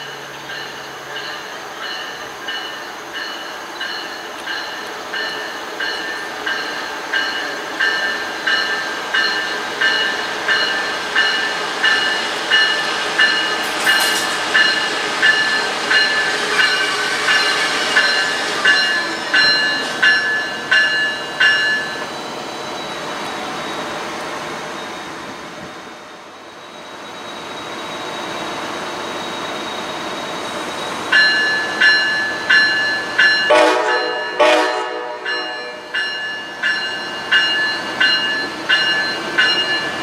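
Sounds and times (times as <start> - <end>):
train bell ringing: 0.0 - 24.0, 26.4 - 40.0
train rumbling on rails: 0.0 - 40.0.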